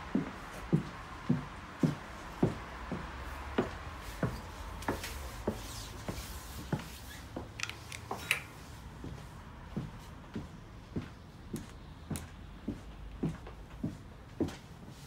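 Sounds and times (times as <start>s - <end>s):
footsteps climbing stairs: 0.0s - 15.0s.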